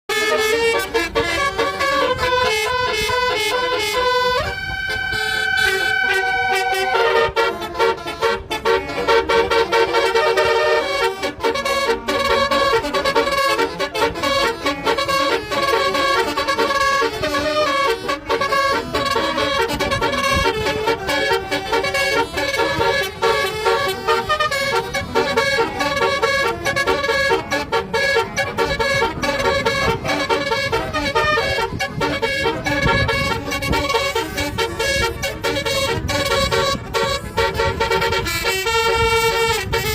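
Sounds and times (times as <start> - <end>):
multi-tone air horn tune: 0.1 - 39.9.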